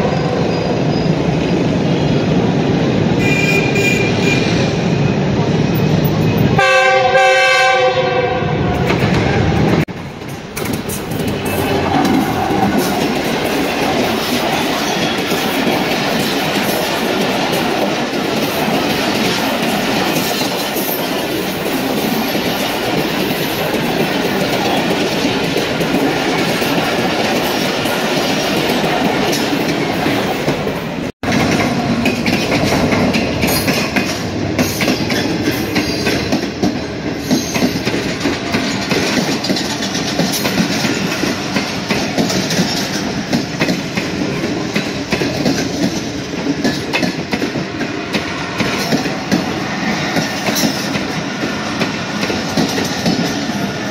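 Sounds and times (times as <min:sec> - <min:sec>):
train wheels clattering on rails: 0:08.7 - 0:53.9.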